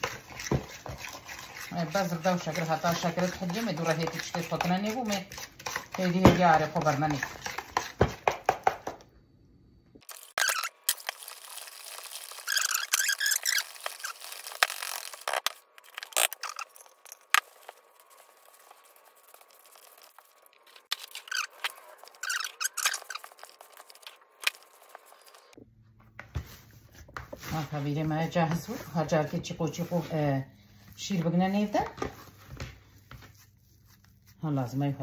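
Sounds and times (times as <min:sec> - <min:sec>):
hands mixing dough: 0:00.0 - 0:09.0, 0:10.1 - 0:35.0.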